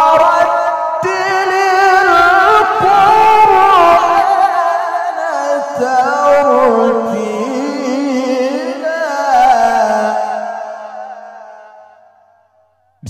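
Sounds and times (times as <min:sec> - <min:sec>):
man chanting through a microphone: 0:00.0 - 0:11.7.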